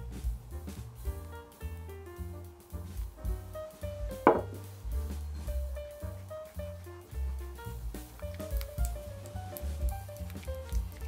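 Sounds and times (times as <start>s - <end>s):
bass line: 0.0s - 11.0s
light melodic tune: 0.0s - 11.0s.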